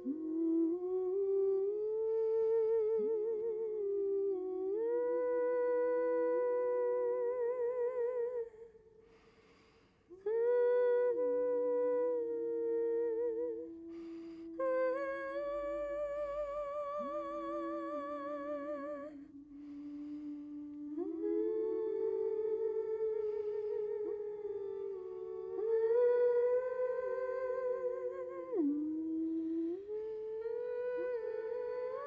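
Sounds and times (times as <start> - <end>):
woman humming layered harmony: 0.0 - 8.7, 10.1 - 32.0.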